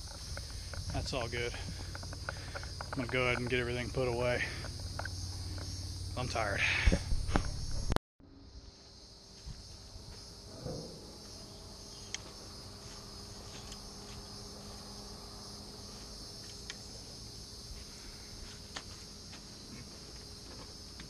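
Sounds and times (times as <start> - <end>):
insect chorus: 0.0 - 21.0.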